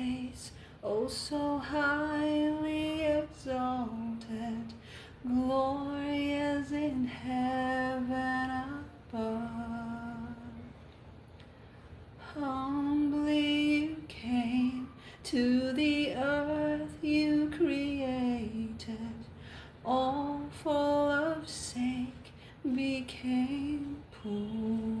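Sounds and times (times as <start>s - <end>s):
woman singing a cappella: 0.0s - 10.8s, 12.1s - 25.0s.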